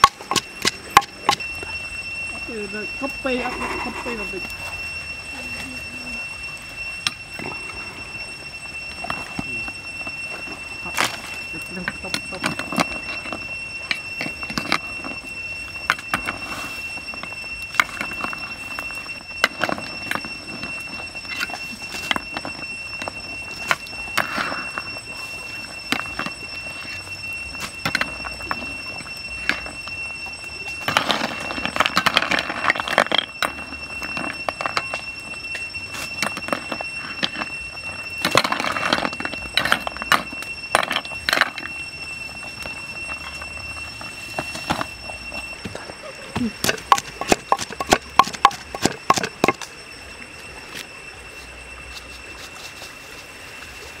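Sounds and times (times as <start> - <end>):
steady high-pitched whine: 0.0 - 54.0
wood fire crackling: 0.0 - 54.0.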